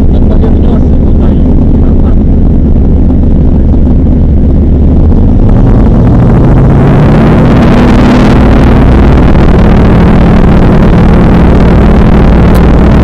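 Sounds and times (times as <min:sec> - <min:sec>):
aircraft piston engine and propeller: 0:00.0 - 0:13.0.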